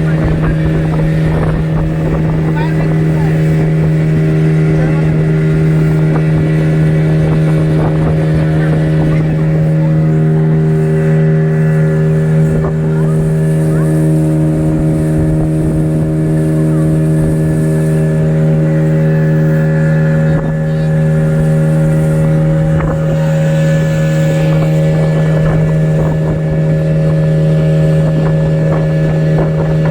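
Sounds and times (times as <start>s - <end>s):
rush of noise: 0.0s - 29.9s
speedboat engine droning: 0.0s - 29.9s.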